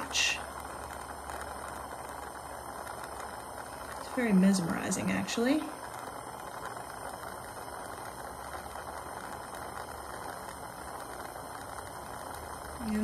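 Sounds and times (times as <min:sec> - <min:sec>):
torch flame rushing: 0:00.0 - 0:13.0.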